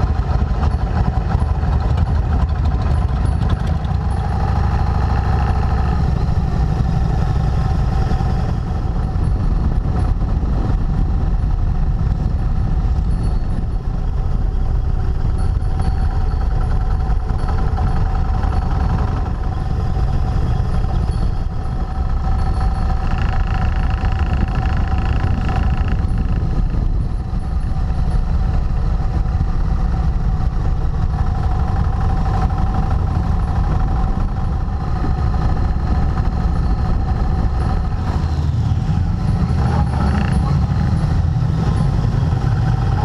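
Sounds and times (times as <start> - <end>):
motorcycle engine running: 0.0 - 43.0
wind rushing over microphone: 0.0 - 43.0.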